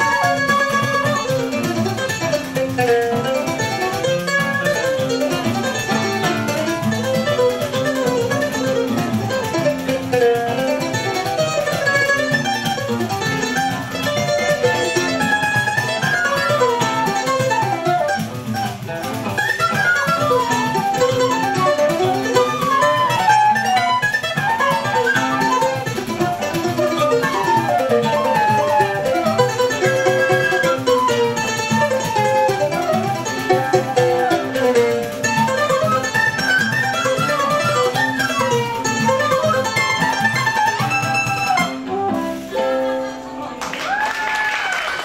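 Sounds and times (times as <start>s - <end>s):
acoustic guitar accompaniment: 0.0s - 44.0s
mandolin picking a quick melody: 0.0s - 44.0s.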